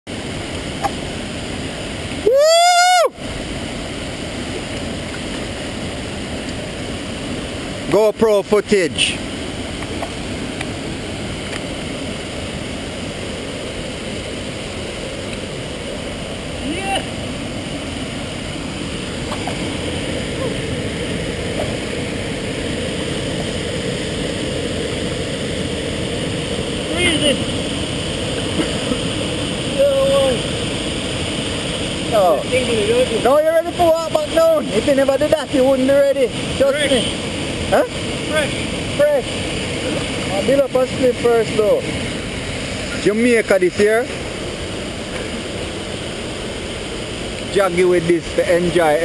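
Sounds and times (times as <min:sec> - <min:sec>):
waterfall rushing: 0:00.1 - 0:49.0.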